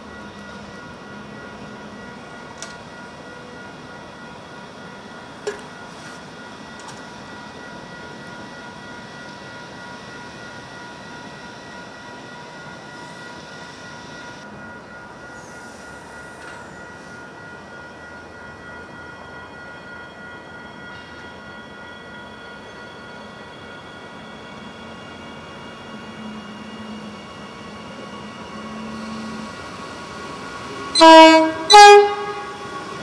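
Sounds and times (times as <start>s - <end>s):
electric train rumble: 0.0s - 33.0s.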